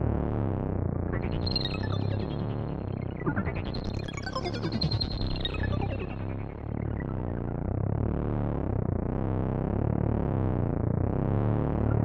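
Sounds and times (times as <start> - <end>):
dark synthesized low hum: 0.0 - 12.0.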